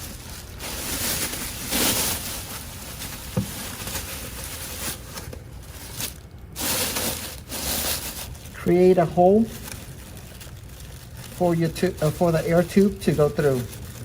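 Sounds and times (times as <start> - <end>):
plastic liner rustling: 0.0 - 14.0.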